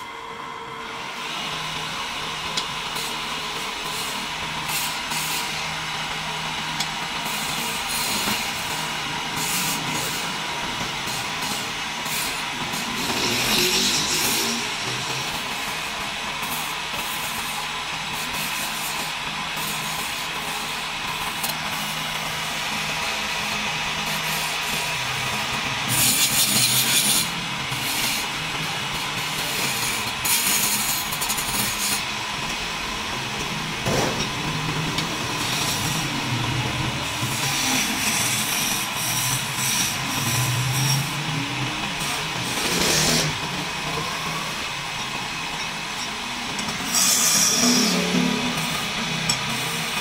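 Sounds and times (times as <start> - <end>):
wood lathe humming: 0.0 - 50.0
chisel cutting spinning wood: 1.2 - 50.0.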